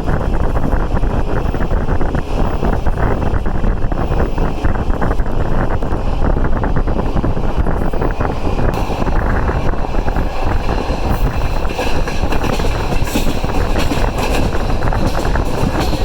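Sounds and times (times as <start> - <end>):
passenger train rumbling: 0.0 - 16.0
wind buffeting microphone: 0.0 - 16.0.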